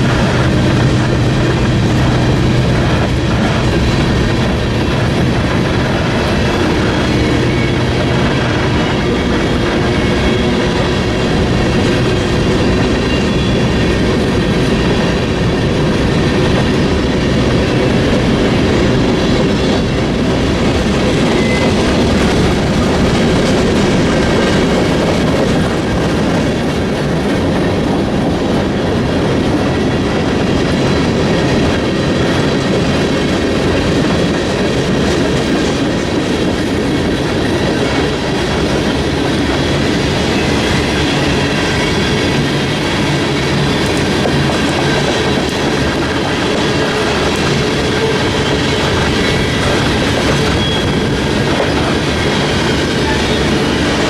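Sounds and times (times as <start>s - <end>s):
freight train cars rolling on rails: 0.0s - 54.0s.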